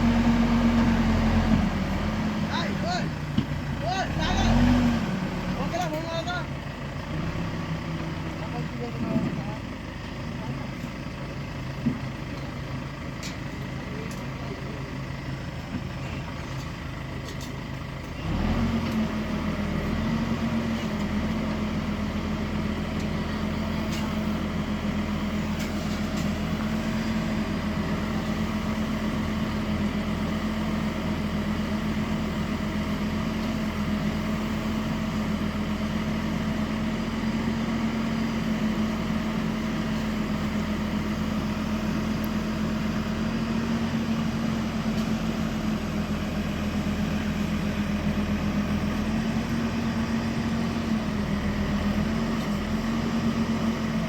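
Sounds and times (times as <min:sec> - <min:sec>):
heavy diesel engine revving: 0:00.0 - 0:09.6, 0:17.9 - 0:54.0.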